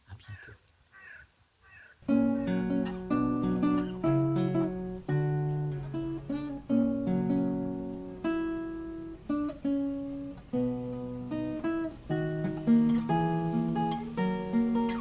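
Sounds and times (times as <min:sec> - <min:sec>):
acoustic guitar music: 0:02.0 - 0:15.0.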